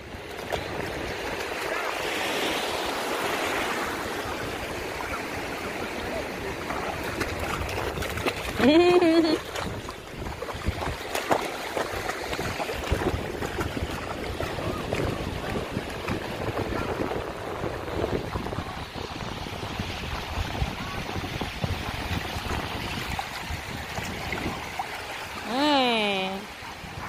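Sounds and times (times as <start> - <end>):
sea surf washing over sand: 0.0 - 27.0
wind rumbling on microphone: 0.0 - 27.0.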